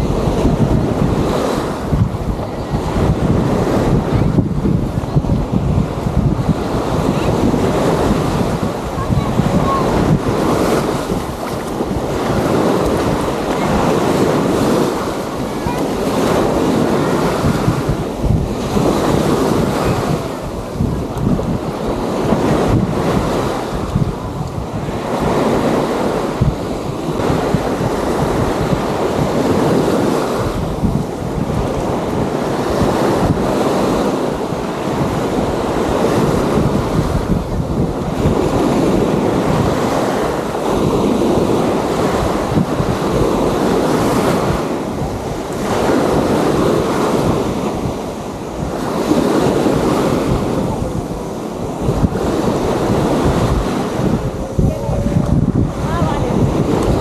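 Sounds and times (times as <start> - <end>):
waves washing onto beach: 0.0 - 57.0
wind rumbling on microphone: 0.0 - 57.0.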